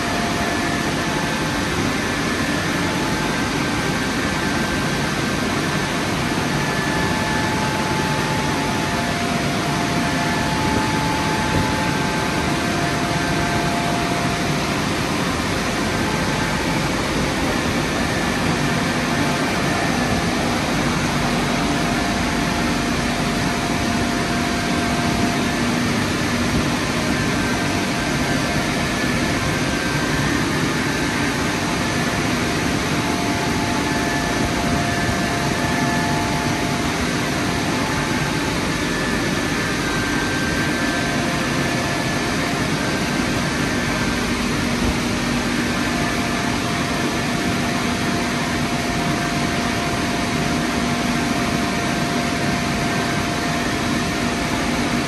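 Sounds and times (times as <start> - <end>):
faint fan hum: 0.0 - 55.0
rush of blower air: 0.0 - 55.0.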